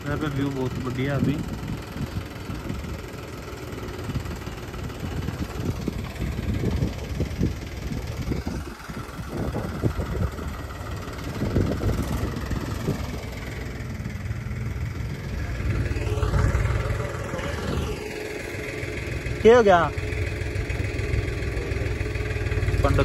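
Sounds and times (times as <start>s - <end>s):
heavy low rumble: 0.0s - 23.0s
vehicle engine running: 0.0s - 23.0s.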